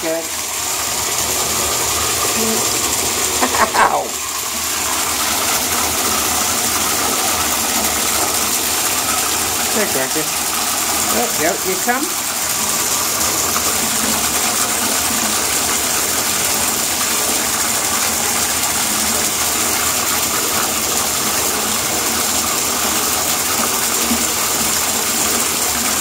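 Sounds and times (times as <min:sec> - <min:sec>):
bathtub tap running: 0:00.0 - 0:26.0.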